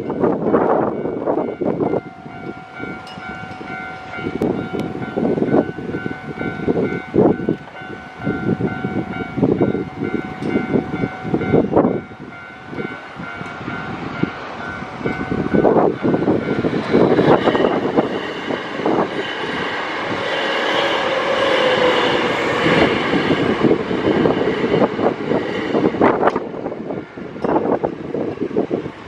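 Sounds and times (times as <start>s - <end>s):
level crossing warning bell: 0.0s - 19.5s, 21.0s - 28.0s
train running past: 0.0s - 29.0s
rushes of noise: 0.3s - 29.0s.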